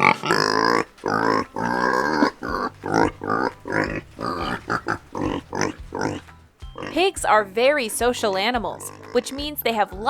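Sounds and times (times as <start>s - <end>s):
pig grunting and oinking: 0.0s - 7.4s, 8.0s - 9.8s.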